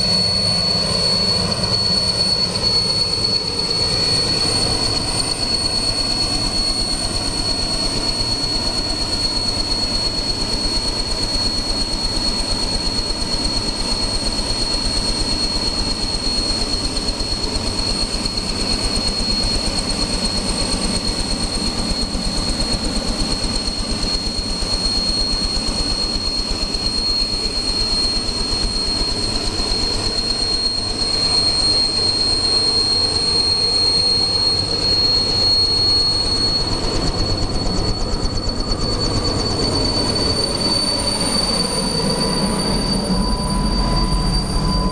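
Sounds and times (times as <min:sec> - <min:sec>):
helicopter rotor and engine drone: 0:00.0 - 0:44.9
high-pitched whine: 0:00.0 - 0:44.9.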